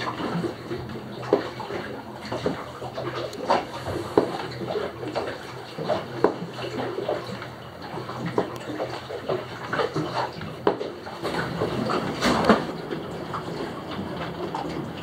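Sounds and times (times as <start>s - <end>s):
waves slapping against boat hull: 0.0s - 15.0s.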